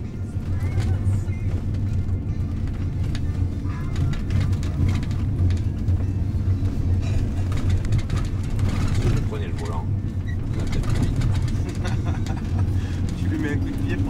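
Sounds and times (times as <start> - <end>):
car driving rumble inside cabin: 0.0 - 14.0
faint music: 0.0 - 14.0.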